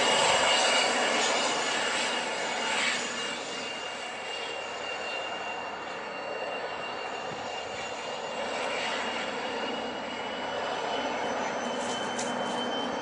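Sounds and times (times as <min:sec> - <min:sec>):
jet engines at taxi power: 0:00.0 - 0:13.0.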